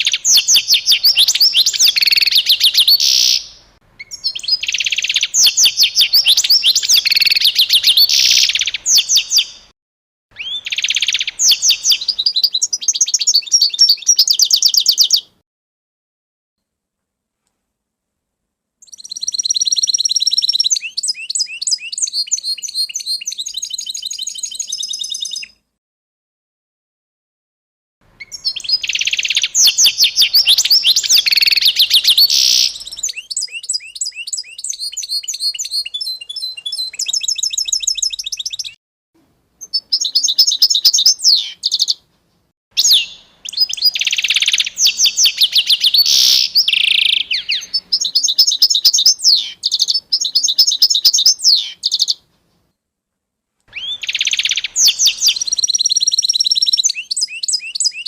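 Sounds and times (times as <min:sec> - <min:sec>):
songbirds chirping: 0:00.0 - 0:09.7, 0:10.3 - 0:15.4, 0:18.8 - 0:25.7, 0:28.0 - 0:38.8, 0:39.6 - 0:52.8, 0:53.6 - 0:58.0.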